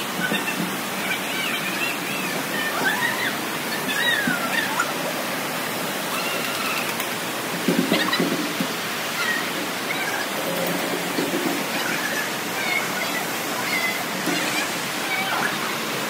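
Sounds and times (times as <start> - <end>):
children calling: 0.0 - 16.0
rushing background noise: 0.0 - 16.0.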